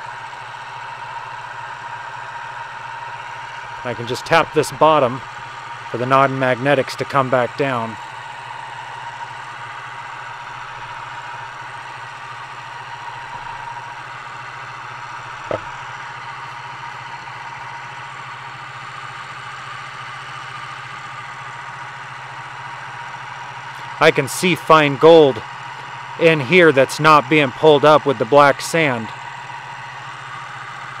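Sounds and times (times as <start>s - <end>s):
small electric motor running: 0.0s - 31.0s.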